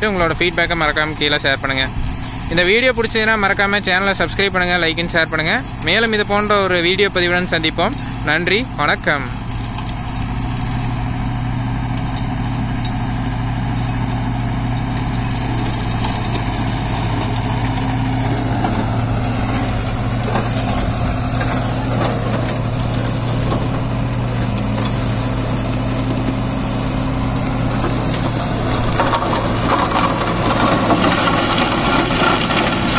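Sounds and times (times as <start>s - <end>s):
shredder chopping crop stalks: 0.0s - 32.9s
tractor diesel engine running: 0.0s - 32.9s.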